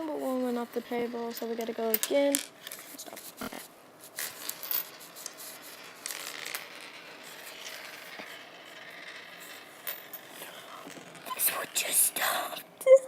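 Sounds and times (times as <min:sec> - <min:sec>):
fidget spinners whirring: 0:00.0 - 0:13.0.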